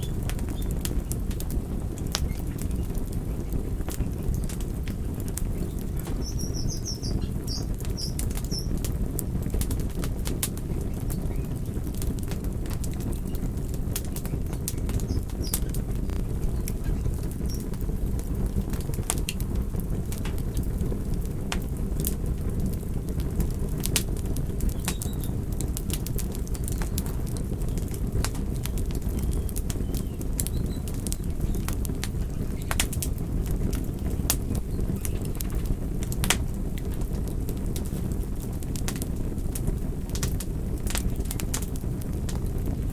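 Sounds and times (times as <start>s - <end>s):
burning wood crackling and popping: 0.0s - 42.9s
campfire flames rumbling: 0.0s - 42.9s.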